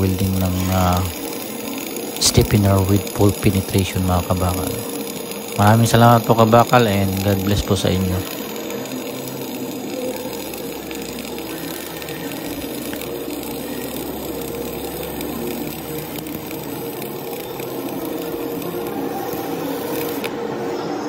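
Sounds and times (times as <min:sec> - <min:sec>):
arc welding: 0:00.0 - 0:20.6.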